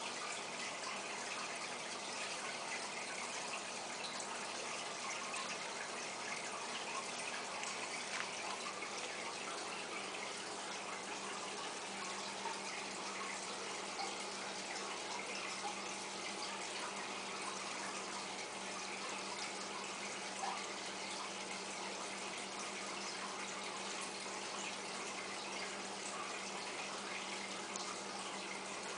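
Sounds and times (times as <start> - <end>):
aquarium water splashing and bubbling: 0.0 - 28.9.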